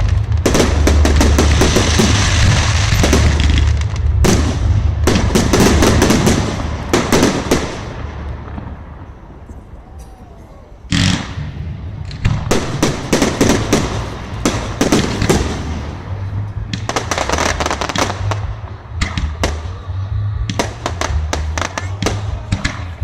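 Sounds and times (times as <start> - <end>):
low-pitched music: 0.0 - 9.6, 10.8 - 23.0
fireworks bangs and crackles: 0.0 - 23.0.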